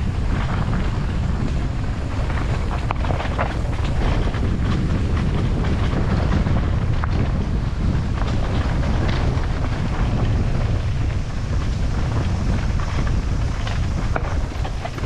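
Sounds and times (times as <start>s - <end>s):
bike rattling on rocky trail: 0.0s - 15.0s
wind rushing over microphone: 0.0s - 15.0s.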